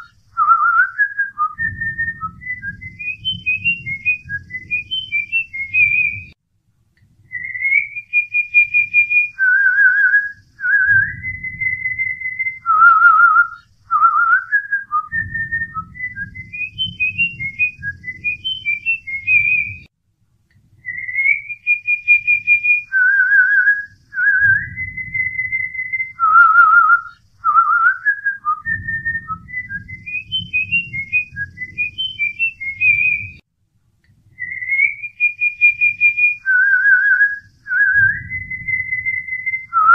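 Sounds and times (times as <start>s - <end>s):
whistled tune with trills: 0.0s - 6.4s, 7.3s - 19.9s, 20.8s - 33.4s, 34.4s - 39.9s
soft low pulsing accompaniment: 0.0s - 21.5s, 22.1s - 34.9s, 35.8s - 39.9s.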